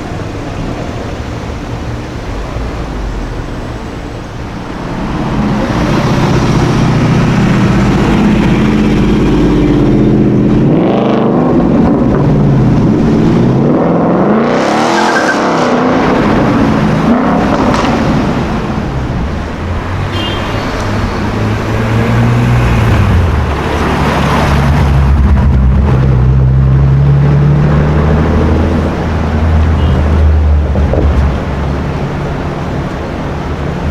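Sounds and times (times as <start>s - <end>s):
car engine revving and accelerating: 0.0s - 33.9s.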